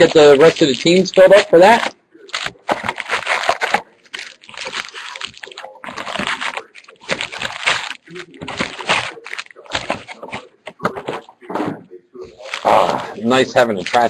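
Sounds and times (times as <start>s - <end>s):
plastic wrapping crinkling: 0.0s - 11.5s, 12.2s - 14.0s.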